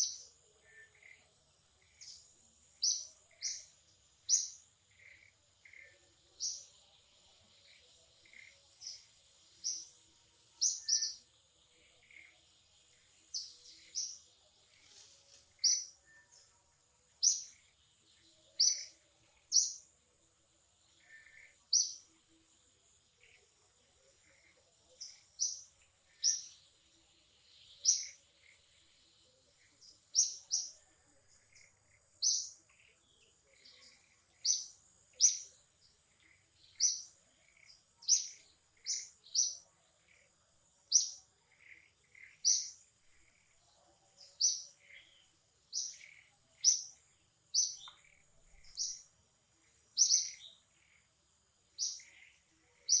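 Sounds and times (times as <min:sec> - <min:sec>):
bird chirping: 0:00.0 - 0:53.0.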